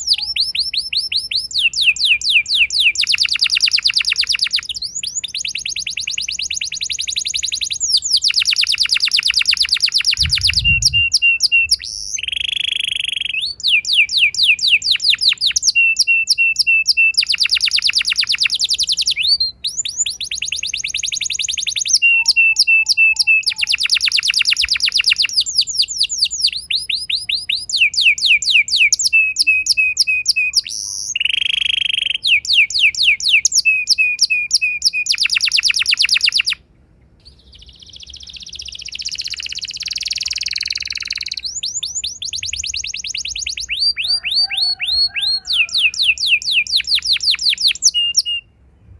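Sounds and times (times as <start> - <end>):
canary singing trills: 0.0 - 36.6, 37.2 - 48.5.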